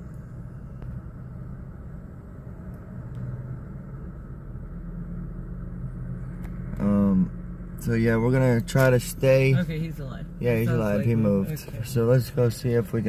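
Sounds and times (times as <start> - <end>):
low vehicle rumble: 0.0 - 13.0
traffic passing: 0.0 - 13.0.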